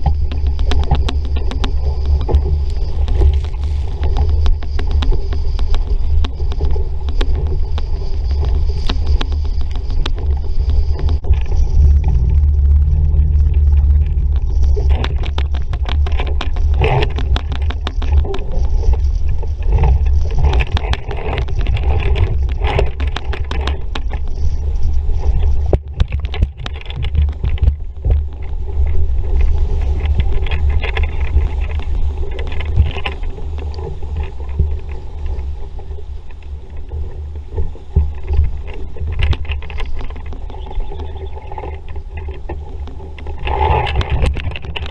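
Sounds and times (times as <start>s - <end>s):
water splashing against hull: 0.0s - 44.9s
wind buffeting microphone: 0.0s - 44.9s.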